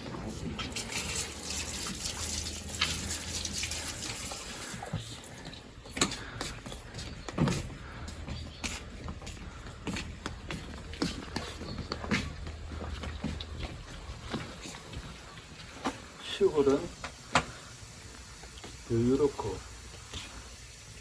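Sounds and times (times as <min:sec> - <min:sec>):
water running and splashing: 0:00.0 - 0:06.4, 0:10.4 - 0:21.0.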